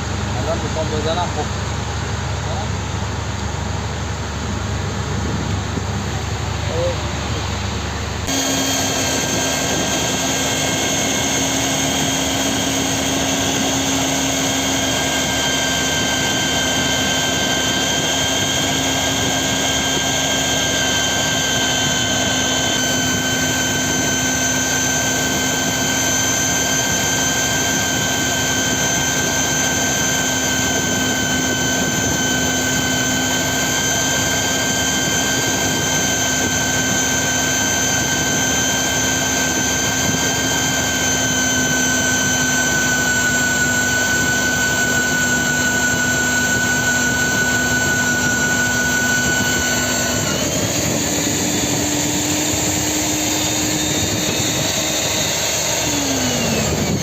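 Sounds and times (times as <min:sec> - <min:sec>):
machine hissing with high whine: 0:03.6 - 0:57.0.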